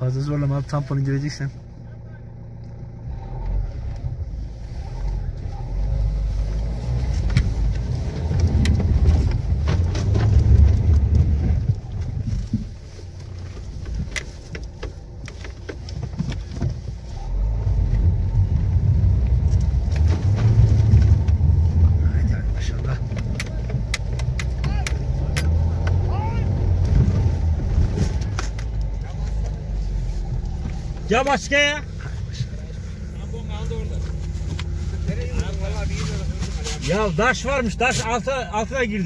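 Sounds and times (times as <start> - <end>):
off-road engine revving: 0.0 - 39.0.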